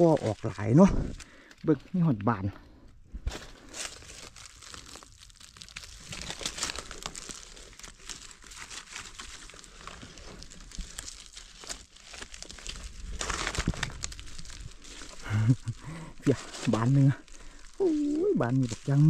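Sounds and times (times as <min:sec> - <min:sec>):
dry leaves rustling and crackling: 0:00.0 - 0:02.2, 0:03.2 - 0:19.0.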